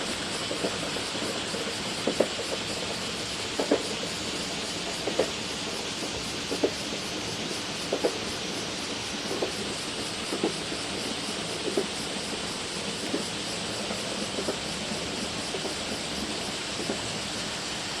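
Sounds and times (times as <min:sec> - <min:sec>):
electric train running on rails: 0:00.0 - 0:18.0
wheels knocking over rail joints: 0:00.4 - 0:17.5.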